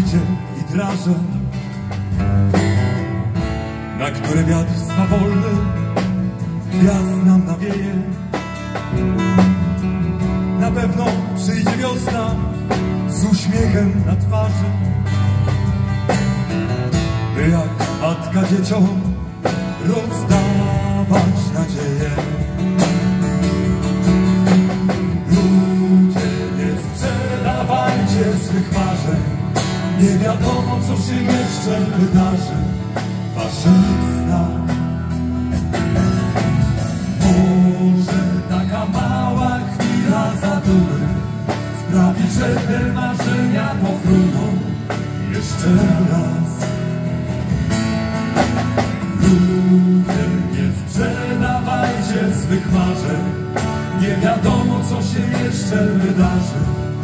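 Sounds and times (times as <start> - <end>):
acoustic guitars strummed: 0.0 - 57.0
drums with steady beat: 0.0 - 57.0.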